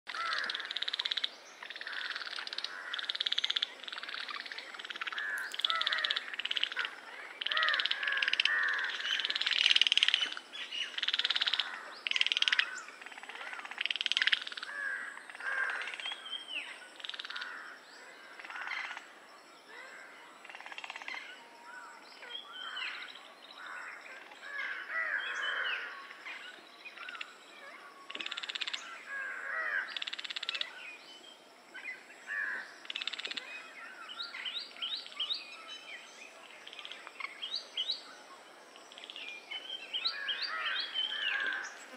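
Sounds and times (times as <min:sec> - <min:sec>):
frogs croaking: 0:00.1 - 0:41.9.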